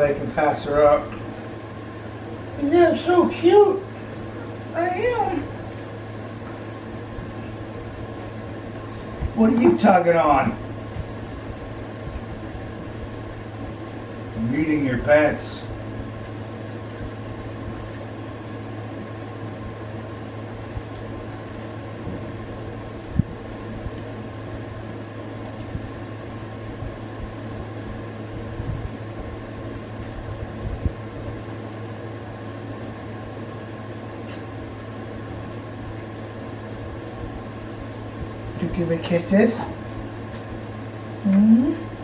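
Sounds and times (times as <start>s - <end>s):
mechanical hum: 0.0s - 42.0s.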